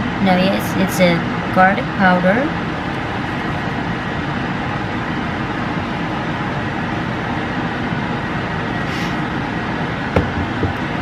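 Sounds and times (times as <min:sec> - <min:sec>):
steady fan-like rushing noise: 0:00.0 - 0:11.0.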